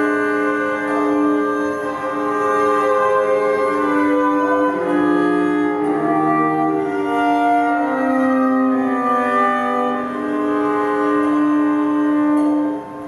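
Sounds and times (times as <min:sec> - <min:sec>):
bowed cello long notes: 0:00.0 - 0:13.0.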